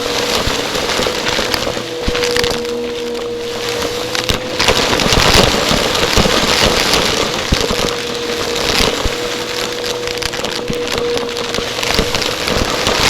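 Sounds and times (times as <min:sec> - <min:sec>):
grit rattling in vacuum: 0:00.0 - 0:13.0
vacuum cleaner running: 0:00.0 - 0:13.0.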